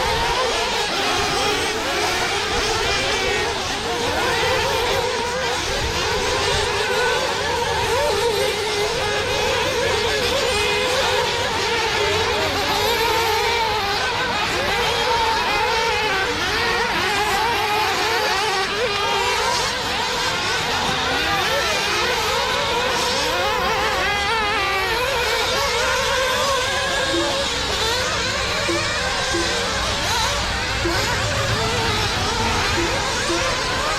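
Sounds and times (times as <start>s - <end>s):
model car engines buzzing: 0.0s - 33.9s.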